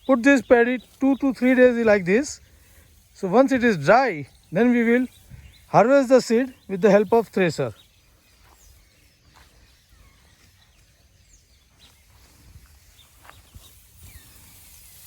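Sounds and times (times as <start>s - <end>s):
faint bird chirps: 0.0s - 15.0s
faint outdoor field ambience: 0.0s - 15.0s.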